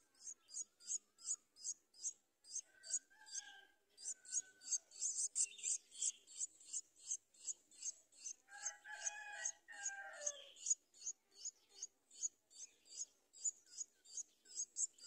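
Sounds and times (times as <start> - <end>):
nestlings begging with high chirps: 0.0 - 15.0.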